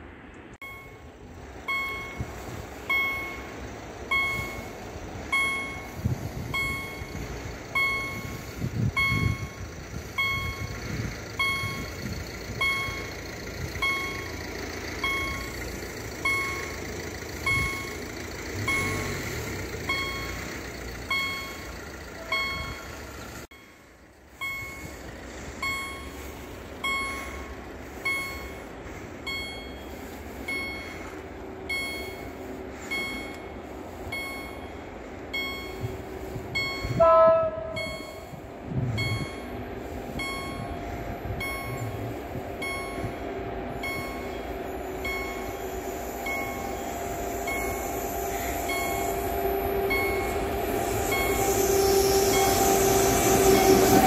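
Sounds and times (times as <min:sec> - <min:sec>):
level crossing warning bell: 0:00.6 - 0:54.0.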